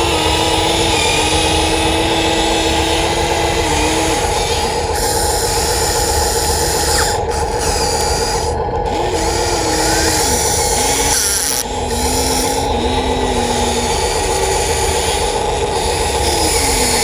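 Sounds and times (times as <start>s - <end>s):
high motor whine: 0.0s - 17.0s
lower whine shifting pitch: 0.0s - 17.0s.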